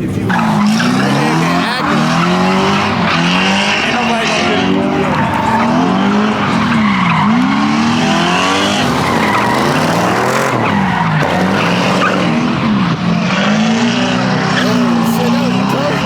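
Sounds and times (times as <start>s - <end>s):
car engine revving: 0.0s - 16.0s
tyres screeching: 0.0s - 16.0s.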